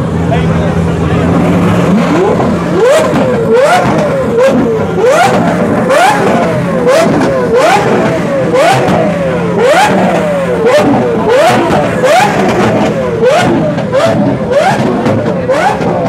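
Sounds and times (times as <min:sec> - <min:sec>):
sports car engine revving: 0:00.0 - 0:16.0.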